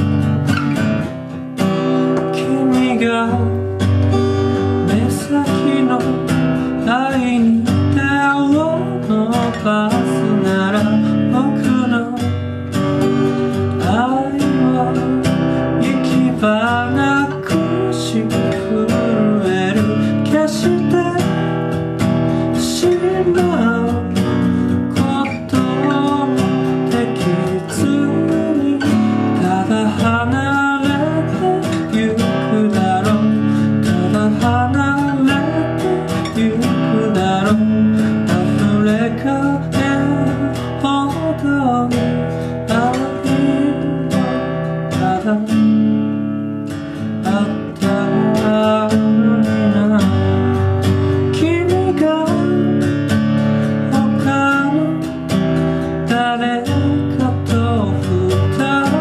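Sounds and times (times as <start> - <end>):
song with strummed acoustic guitar: 0.0 - 59.0.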